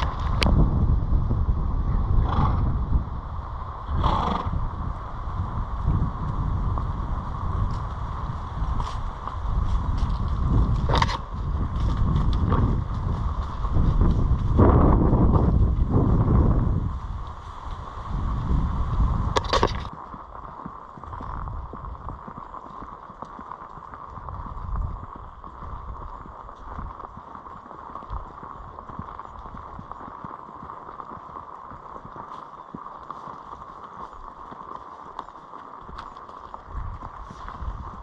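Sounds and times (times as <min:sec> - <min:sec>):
wind buffeting microphone: 0:00.0 - 0:32.8, 0:35.8 - 0:38.0
horse hooves clip-clopping on dirt: 0:00.0 - 0:38.0.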